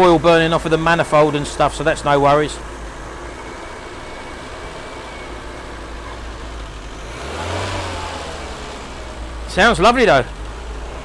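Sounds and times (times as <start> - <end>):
car engine idling unevenly: 0.0 - 11.0.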